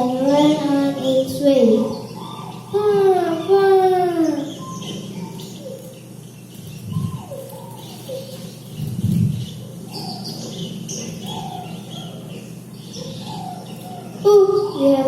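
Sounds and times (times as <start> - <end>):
high bird chirps: 0.0 - 15.0.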